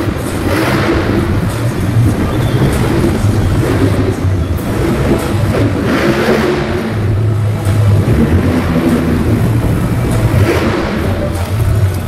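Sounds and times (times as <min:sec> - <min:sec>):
monster truck engines running: 0:00.0 - 0:12.0.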